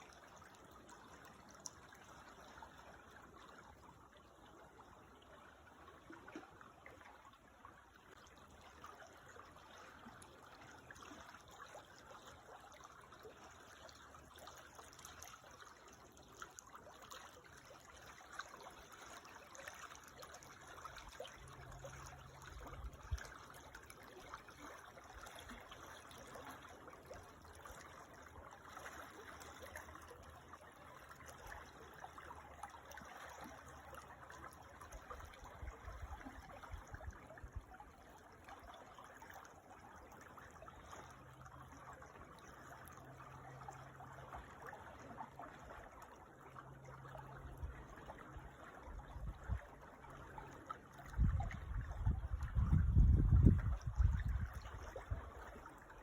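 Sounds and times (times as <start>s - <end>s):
creek water trickling: 0.0s - 56.0s.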